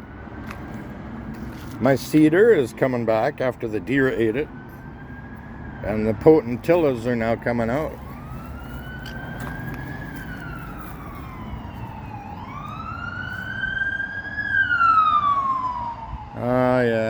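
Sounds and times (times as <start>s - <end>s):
emergency siren wailing: 1.1s - 17.0s.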